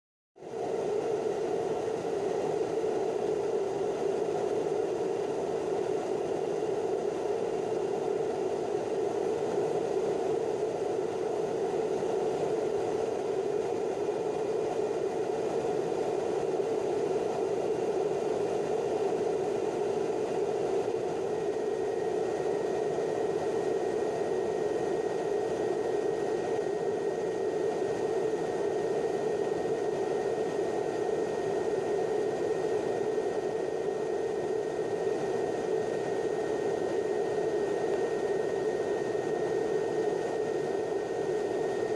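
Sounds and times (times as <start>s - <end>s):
aircraft cabin engine drone: 0.4s - 41.9s
faint thin whine: 0.4s - 41.9s.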